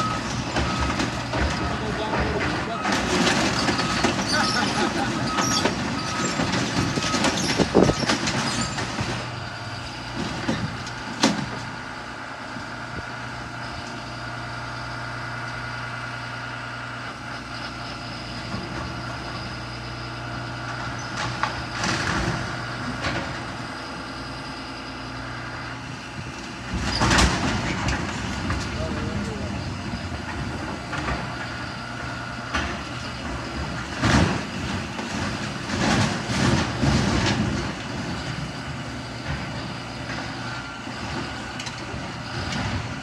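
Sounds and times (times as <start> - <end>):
large diesel engine running: 0.0 - 43.0.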